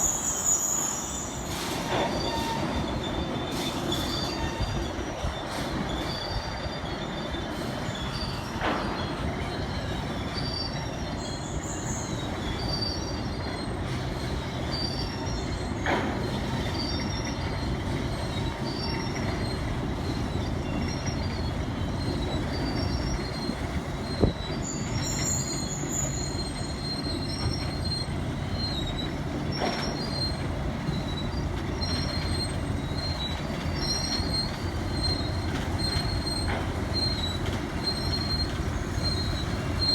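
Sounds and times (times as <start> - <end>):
metal-on-metal screeches: 0.0 - 39.9
train rolling rumble: 0.0 - 39.9.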